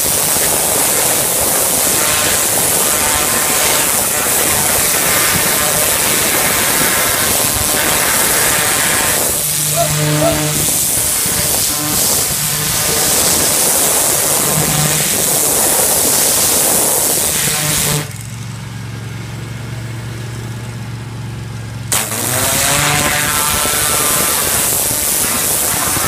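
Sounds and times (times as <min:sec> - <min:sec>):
pressure washer spray hissing: 0:00.0 - 0:18.2, 0:21.9 - 0:26.0.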